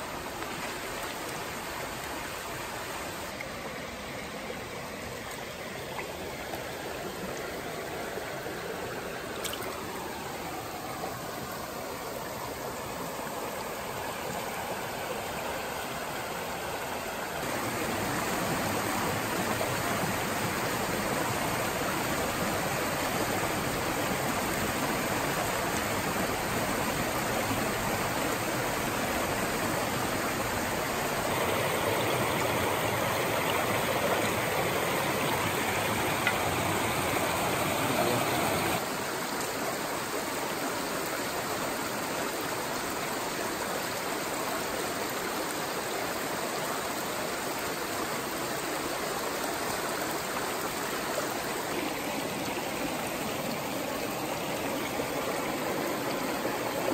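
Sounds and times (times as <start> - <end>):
creek flowing over rocks: 0.0 - 56.9.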